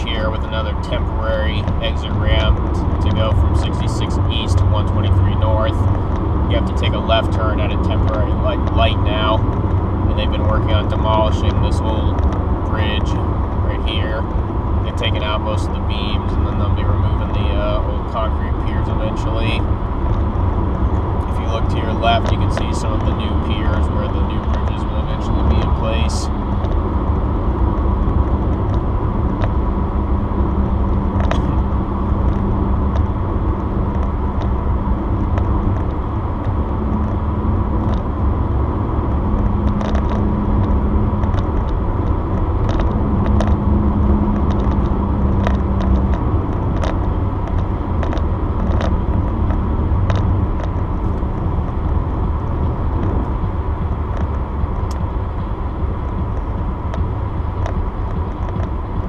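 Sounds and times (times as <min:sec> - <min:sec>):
car road and tyre noise: 0:00.0 - 0:59.0
low hum: 0:00.0 - 0:59.0.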